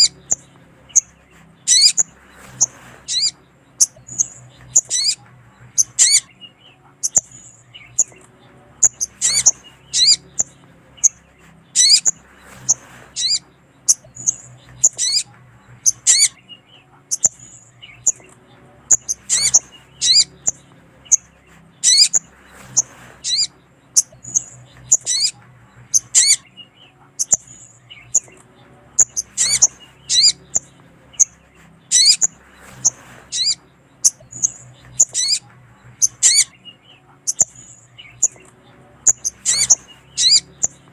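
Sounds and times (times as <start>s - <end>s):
bird chirping: 0.0s - 40.9s
faint low hum: 0.0s - 40.9s.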